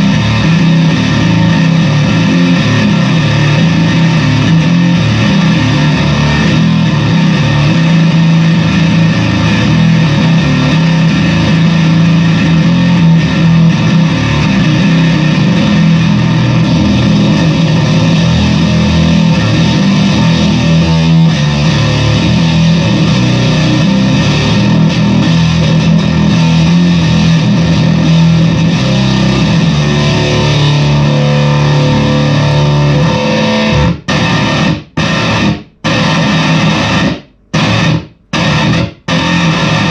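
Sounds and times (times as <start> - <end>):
distorted bass guitar notes: 0.0 - 39.9.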